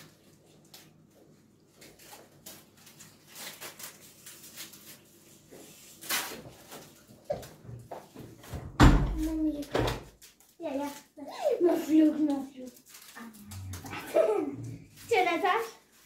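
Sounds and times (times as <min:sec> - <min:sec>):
hands rustling and crinkling: 0:00.0 - 0:07.6, 0:10.1 - 0:16.0.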